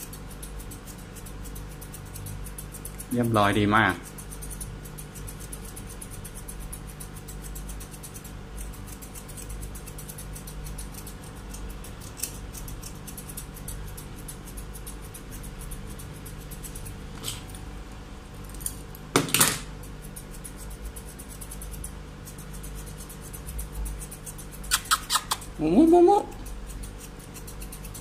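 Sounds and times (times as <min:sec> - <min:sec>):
scissors snipping fur: 0:00.0 - 0:17.7, 0:18.4 - 0:28.0.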